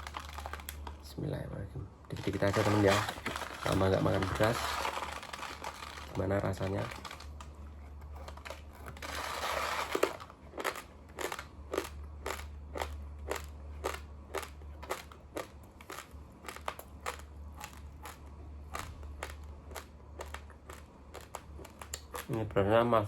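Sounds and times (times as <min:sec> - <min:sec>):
raw rice crunched between teeth: 0:00.0 - 0:01.0, 0:02.2 - 0:07.5, 0:08.2 - 0:22.3.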